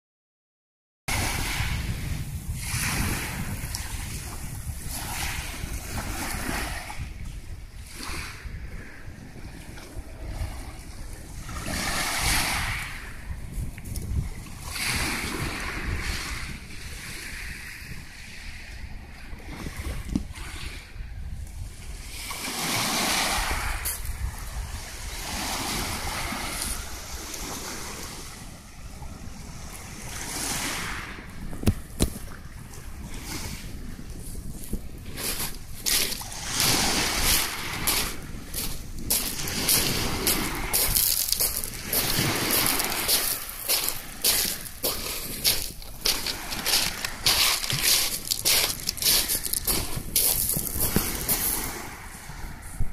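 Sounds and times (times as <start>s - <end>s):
choppy sea waves washing: 1.1s - 52.9s
wind buffeting the microphone: 1.1s - 52.9s.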